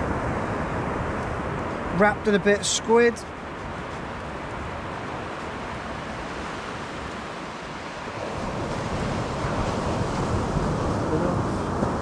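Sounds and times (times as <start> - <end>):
surf breaking on beach: 0.0 - 12.0
wind gusting over microphone: 0.0 - 12.0.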